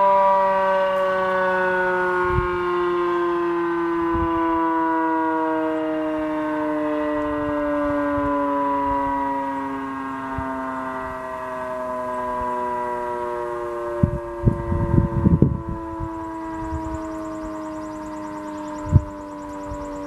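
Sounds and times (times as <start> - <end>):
fire siren winding down: 0.0 - 20.0.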